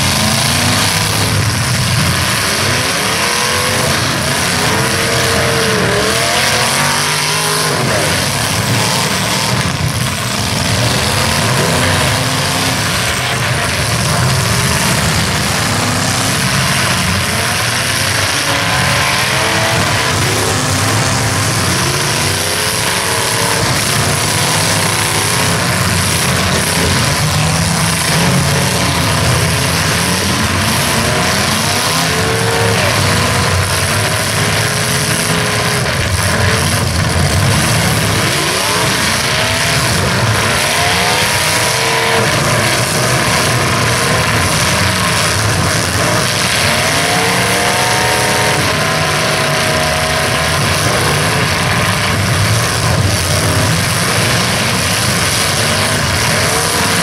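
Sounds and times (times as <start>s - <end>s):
car engines roaring and revving: 0.0s - 57.0s.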